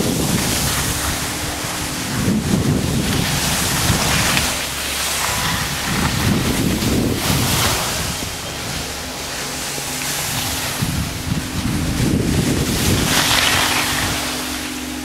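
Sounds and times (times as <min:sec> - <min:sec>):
skis hissing over snow: 0:00.0 - 0:15.0
wind rushing over microphone: 0:00.0 - 0:15.0.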